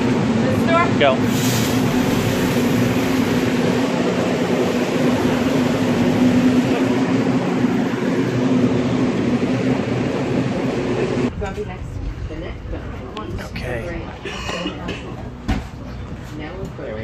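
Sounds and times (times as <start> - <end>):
train humming steadily: 0.0 - 17.0.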